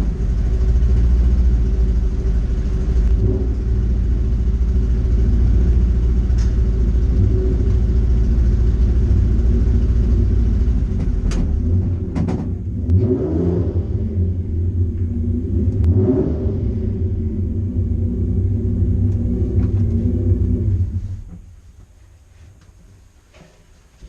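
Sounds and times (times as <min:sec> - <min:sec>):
engine throttle blips: 0:00.0 - 0:21.6
car engine idling: 0:00.0 - 0:22.4.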